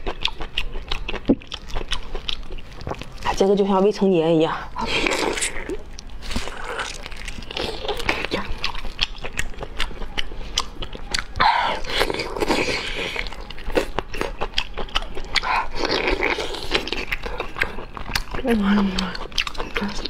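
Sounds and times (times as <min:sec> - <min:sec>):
wet biting and chewing: 0:00.0 - 0:03.5, 0:04.8 - 0:20.0.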